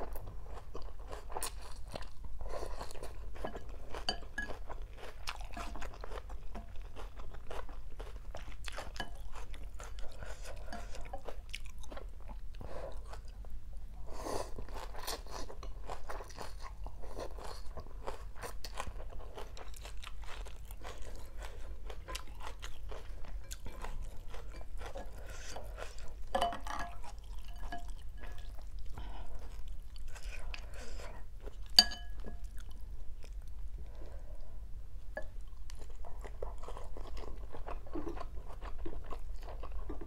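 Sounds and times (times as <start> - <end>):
wet chewing and crunching: 0.0 - 13.5, 14.4 - 34.0, 35.2 - 40.0.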